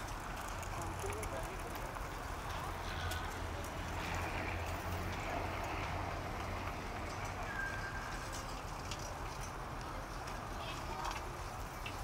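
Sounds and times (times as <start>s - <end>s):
bicycles clicking and ticking: 0.0s - 12.0s.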